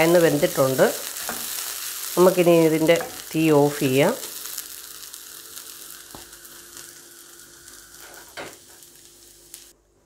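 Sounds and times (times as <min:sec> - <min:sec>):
vegetables sizzling in a pan: 0:00.0 - 0:09.8.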